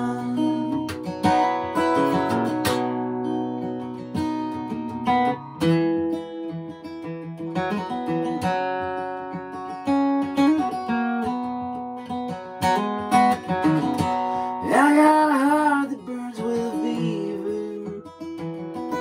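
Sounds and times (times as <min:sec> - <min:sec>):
acoustic guitar strummed: 0:00.0 - 0:19.0.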